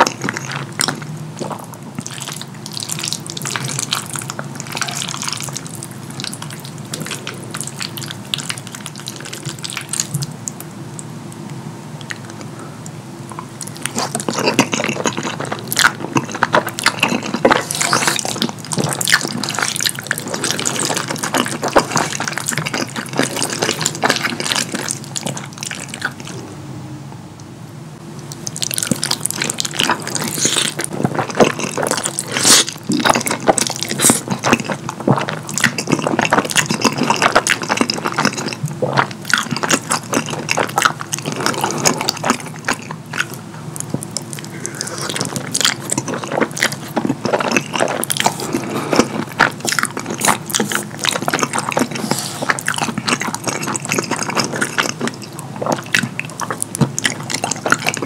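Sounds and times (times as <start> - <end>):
person chewing and slurping: 0.0 - 10.3, 12.0 - 26.5, 28.2 - 58.0.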